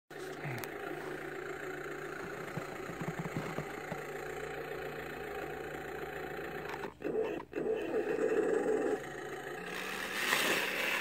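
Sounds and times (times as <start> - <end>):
toy snowcat electric motor: 0.2 - 11.0.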